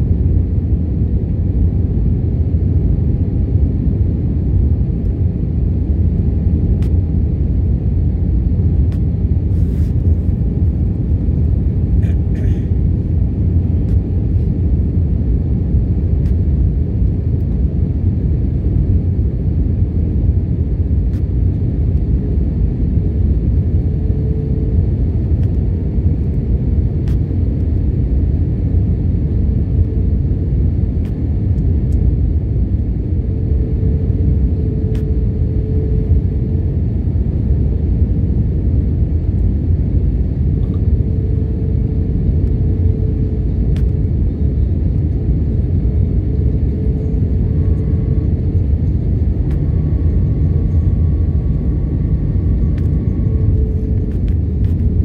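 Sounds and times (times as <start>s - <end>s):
airliner cabin rumble: 0.0s - 55.0s
faint hum: 0.0s - 55.0s.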